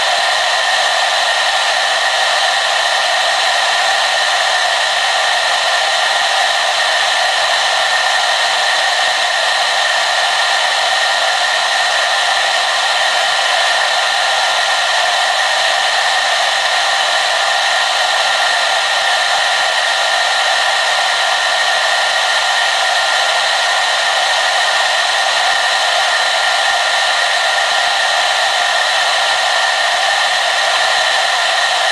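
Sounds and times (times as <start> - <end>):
hair dryer blowing: 0.0 - 31.9.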